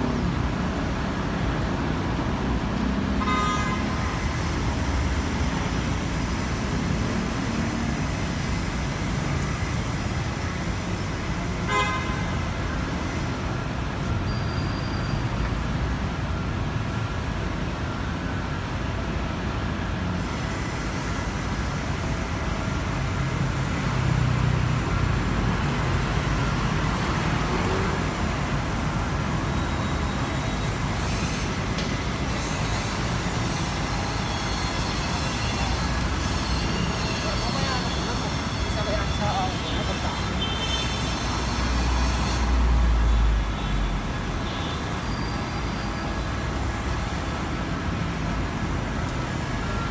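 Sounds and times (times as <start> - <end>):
city street traffic: 0.0 - 49.9.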